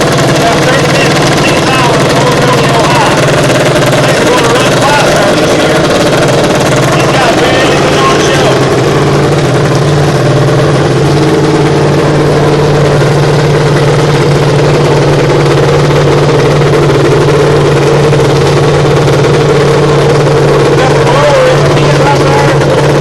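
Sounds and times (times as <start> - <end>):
dirt bike engine idling: 0.0 - 23.0.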